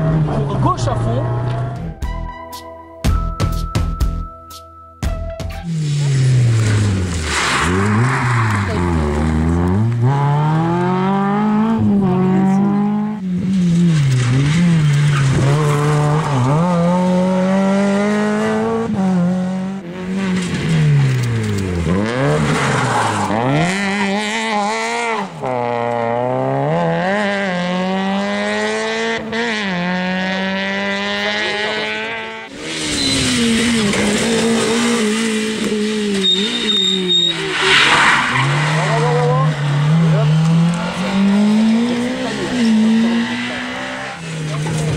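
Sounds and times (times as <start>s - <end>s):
rally car engines revving: 0.0s - 2.0s, 5.5s - 44.9s.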